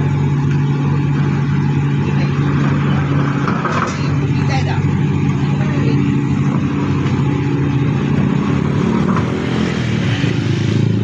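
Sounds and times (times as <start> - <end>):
motor vehicle engine humming: 0.0 - 11.0.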